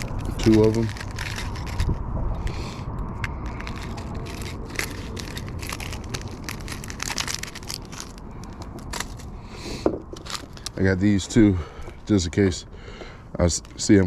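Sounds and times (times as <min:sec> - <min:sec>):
crinkling and clicking handling noise: 0:00.0 - 0:14.0.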